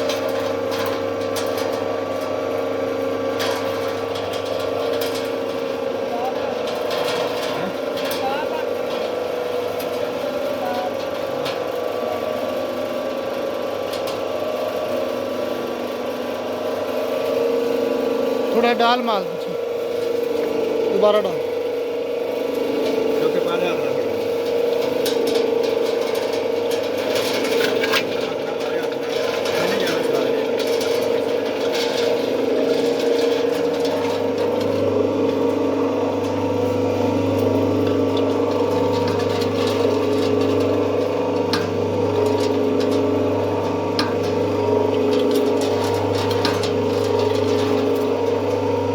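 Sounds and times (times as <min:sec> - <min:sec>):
electric motor humming and whining: 0:00.0 - 0:48.9.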